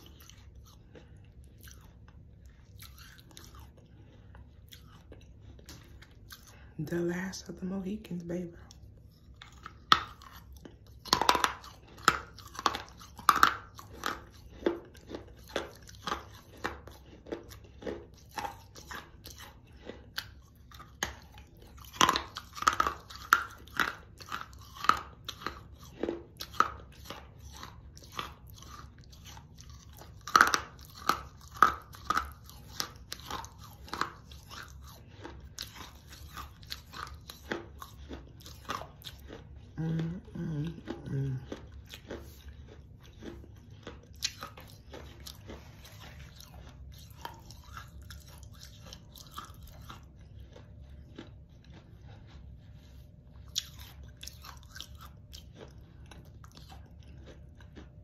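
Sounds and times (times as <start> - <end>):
person chewing crunchy clay: 0.0 - 58.0.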